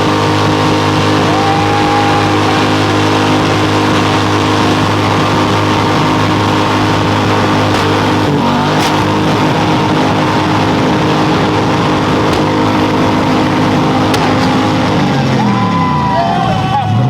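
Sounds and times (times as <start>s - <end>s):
small engine at high revs: 0.0s - 15.7s.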